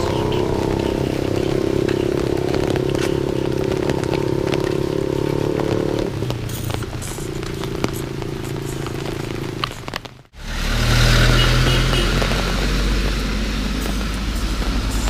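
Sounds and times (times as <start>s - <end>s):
motorcycle engine running: 0.0s - 15.0s
rain ticking: 0.0s - 15.0s.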